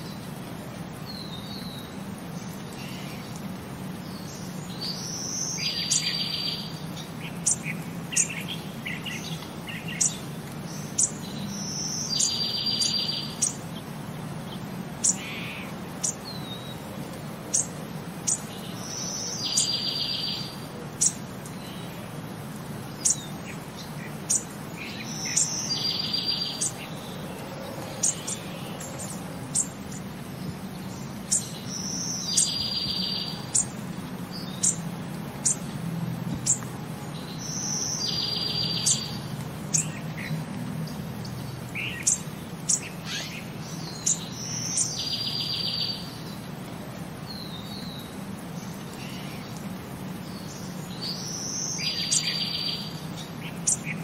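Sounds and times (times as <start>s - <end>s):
bird chirps and buzzy trills: 0.0s - 54.0s.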